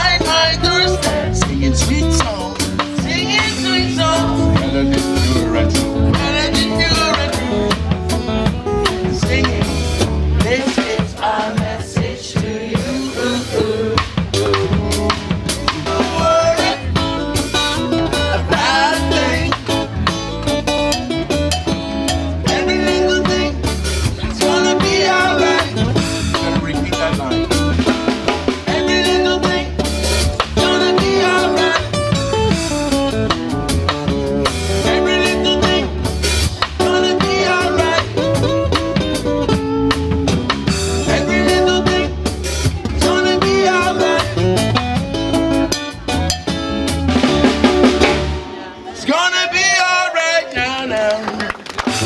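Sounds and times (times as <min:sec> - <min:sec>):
man singing: 0:00.0 - 0:20.9, 0:22.1 - 0:33.4, 0:34.0 - 0:39.6, 0:40.6 - 0:45.9, 0:48.8 - 0:52.0
drum kit beat: 0:00.0 - 0:48.9, 0:51.6 - 0:52.0
acoustic guitar: 0:00.0 - 0:49.0
electric bass guitar: 0:00.0 - 0:49.0, 0:50.9 - 0:52.0
reggae band playing: 0:00.0 - 0:52.0.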